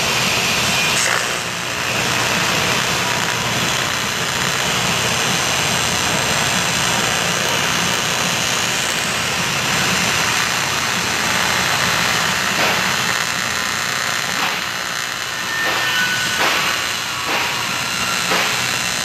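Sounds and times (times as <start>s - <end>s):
welding arc buzzing: 0.0s - 19.0s.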